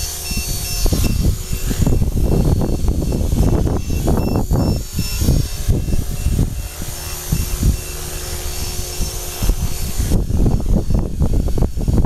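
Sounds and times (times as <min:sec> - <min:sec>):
rc helicopter motor whine: 0:00.0 - 0:12.0
wind rumbling on microphone: 0:00.0 - 0:12.0.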